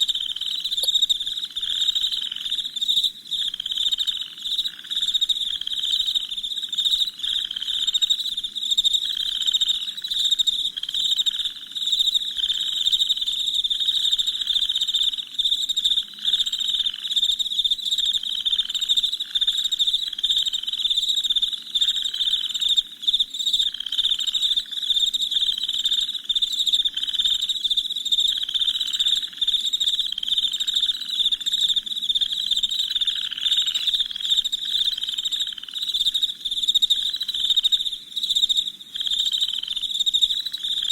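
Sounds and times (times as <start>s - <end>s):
crickets chirping: 0.0s - 40.9s
low pulsing insect call: 0.0s - 40.9s.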